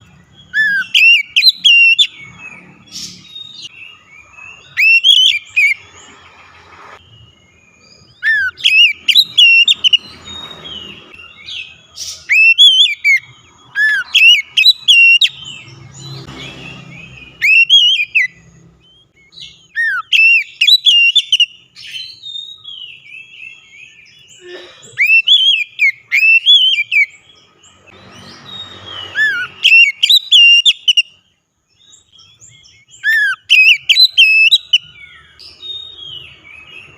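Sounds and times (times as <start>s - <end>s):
bird singing whistled phrases: 0.4s - 6.0s, 7.0s - 15.6s, 16.9s - 24.4s, 25.0s - 27.2s, 28.1s - 31.2s, 31.8s - 36.9s.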